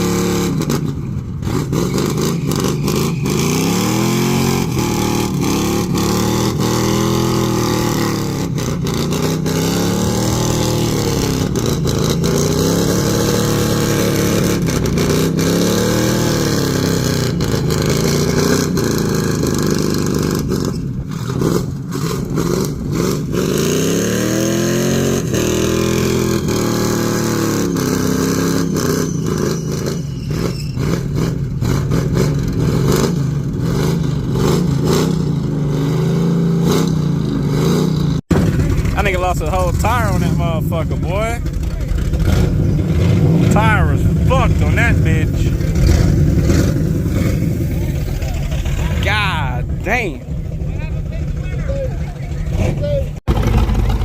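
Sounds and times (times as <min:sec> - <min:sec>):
engine revving hard: 0:00.0 - 0:50.2.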